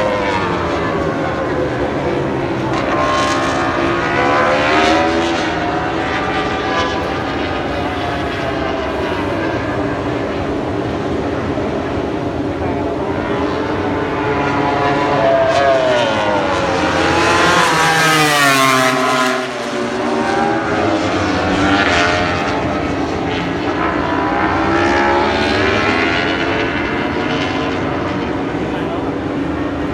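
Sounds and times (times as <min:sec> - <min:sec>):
race motorcycles passing at speed: 0:00.0 - 0:29.9.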